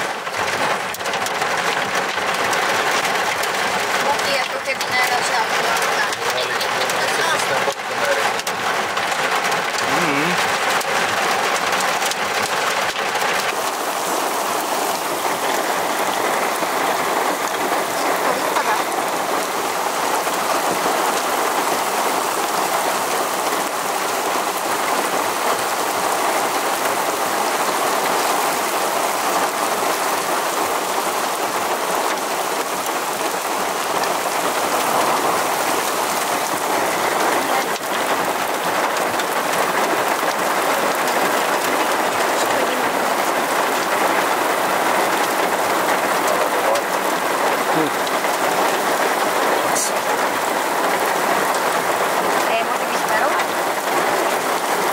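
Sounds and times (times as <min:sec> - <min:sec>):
heavy rain on gravel: 0:00.0 - 0:54.9.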